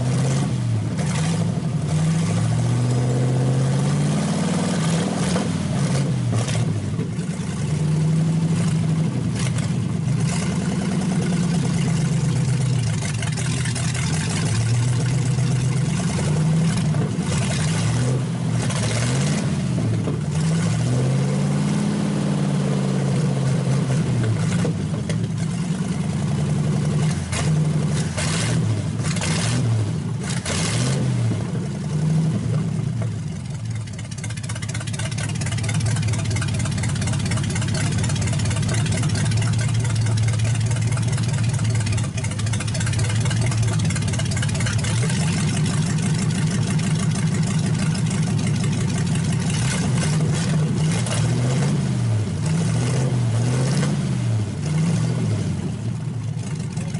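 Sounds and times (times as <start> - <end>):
unmuffled vee eight engine revving: 0.0 - 56.9.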